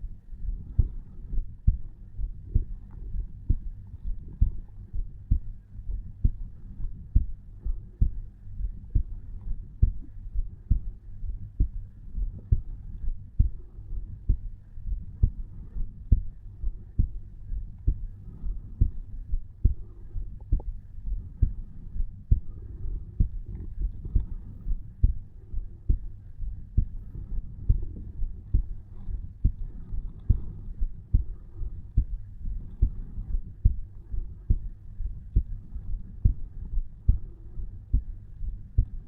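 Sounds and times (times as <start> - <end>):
heartbeat lub-dub: 0.0 - 39.0
low steady hum: 0.0 - 39.0.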